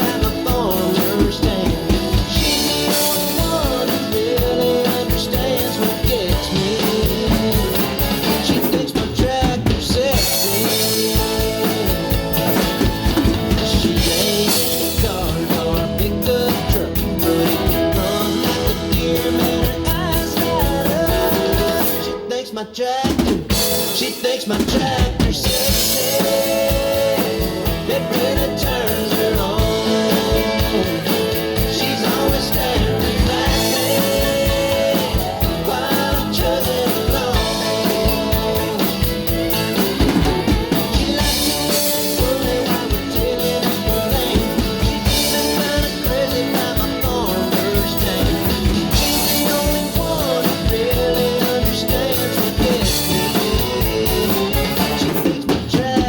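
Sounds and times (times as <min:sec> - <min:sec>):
drum kit playing a beat: 0:00.0 - 0:22.3, 0:23.0 - 0:56.0
recorded country song: 0:00.0 - 0:56.0.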